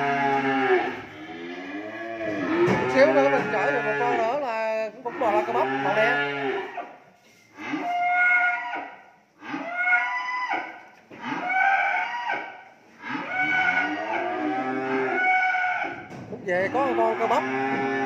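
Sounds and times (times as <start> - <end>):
cattle mooing: 0.0 - 6.9, 7.6 - 18.0.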